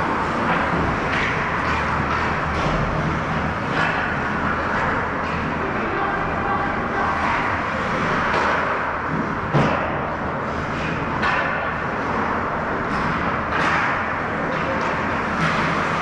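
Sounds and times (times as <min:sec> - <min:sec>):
skating and arena noise: 0:00.0 - 0:16.0.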